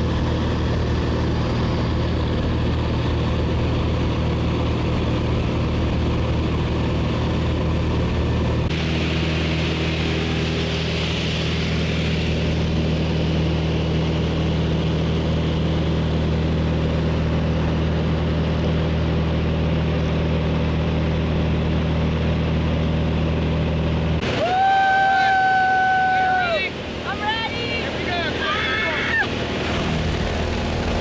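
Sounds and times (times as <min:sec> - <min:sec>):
propeller engine droning: 0:00.0 - 0:31.0.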